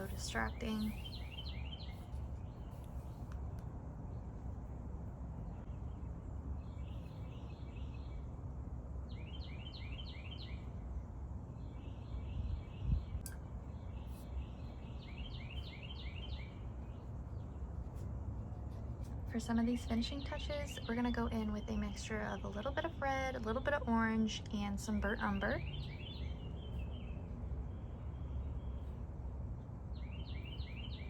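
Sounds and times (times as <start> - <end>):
steady low rumble: 0.0 - 9.7, 10.5 - 31.0
songbirds chirping: 0.0 - 31.0.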